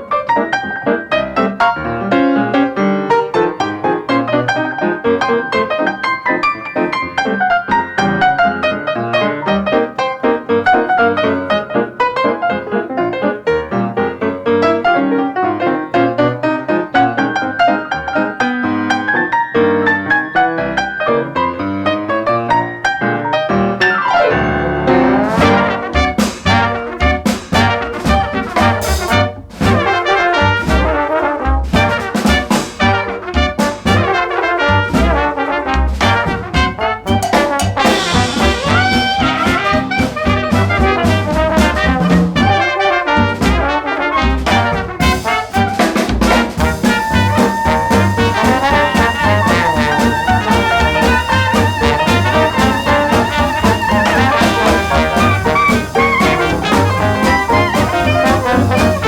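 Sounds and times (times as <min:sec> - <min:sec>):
swing jazz with brass section: 0:00.0 - 0:59.0.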